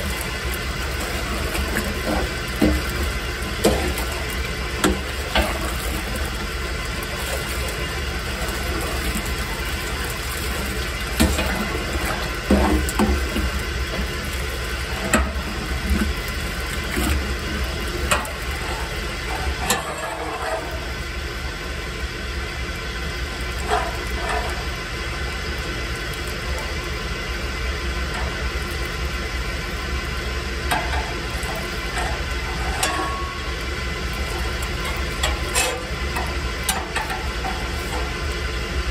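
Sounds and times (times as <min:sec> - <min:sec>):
malt mill motor humming: 0:00.0 - 0:38.9.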